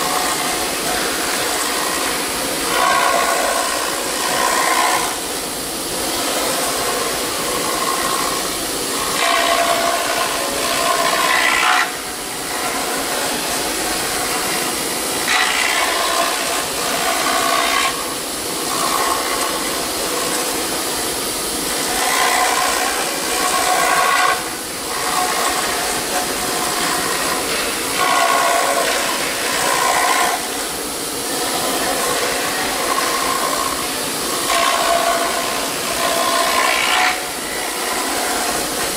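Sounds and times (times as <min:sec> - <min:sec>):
cutter rasping foam: 0:00.0 - 0:20.6, 0:21.6 - 0:38.9
router spindle whine: 0:00.0 - 0:38.9.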